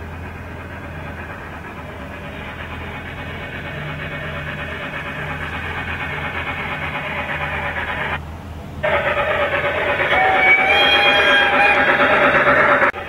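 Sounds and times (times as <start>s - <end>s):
model train motor humming: 0.0s - 13.0s
wheels rolling on rails: 0.0s - 13.0s.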